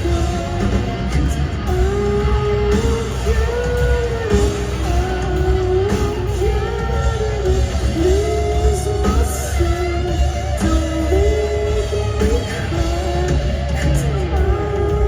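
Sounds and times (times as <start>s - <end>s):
electric guitars: 0.0s - 15.0s
rock band playing: 0.0s - 15.0s.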